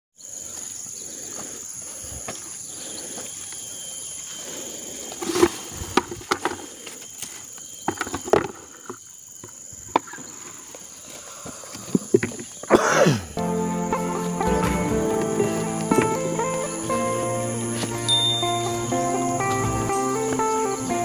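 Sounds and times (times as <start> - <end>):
insects droning: 0.2 - 21.0.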